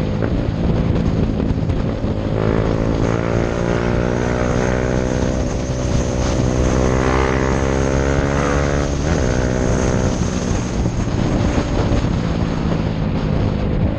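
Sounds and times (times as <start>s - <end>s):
motorcycle engine at speed: 0.0s - 13.9s.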